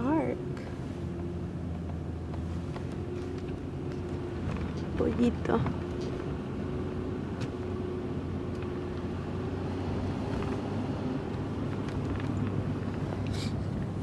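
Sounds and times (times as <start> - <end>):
car cabin road hum: 0.0 - 14.0.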